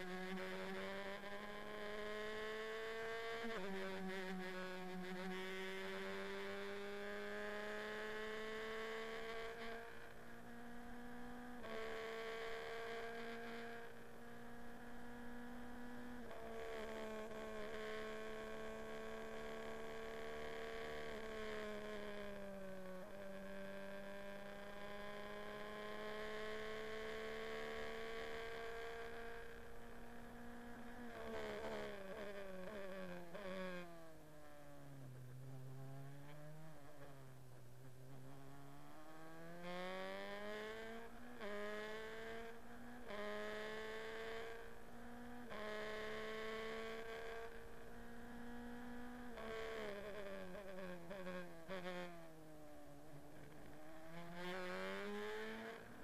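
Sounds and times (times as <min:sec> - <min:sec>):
race car engine revving and shifting: 0:00.0 - 0:56.0.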